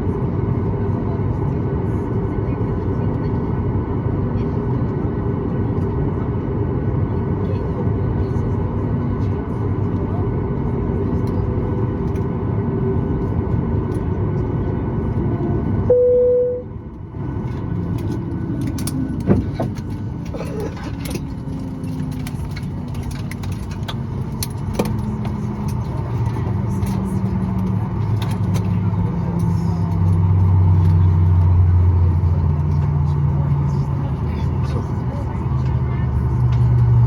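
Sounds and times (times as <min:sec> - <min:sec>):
airplane cabin hum: 0:00.0 - 0:37.0.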